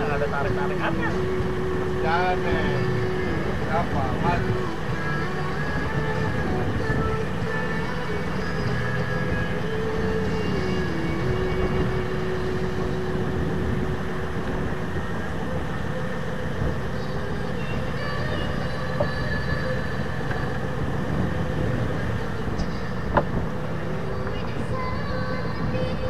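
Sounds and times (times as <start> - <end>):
boat engine droning: 0.0 - 26.0
water noise: 0.0 - 26.0
wind: 0.0 - 26.0.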